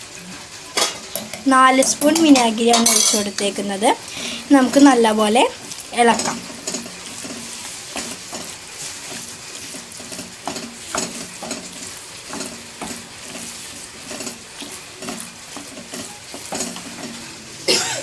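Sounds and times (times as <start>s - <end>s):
oil sizzling: 0.0s - 18.0s
spoon scraping and tapping pan: 0.8s - 5.1s, 6.0s - 17.4s.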